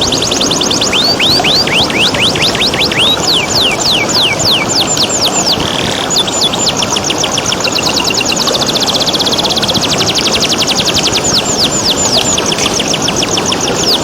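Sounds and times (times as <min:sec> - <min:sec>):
canary singing: 0:00.0 - 0:14.0
running water: 0:00.0 - 0:14.0.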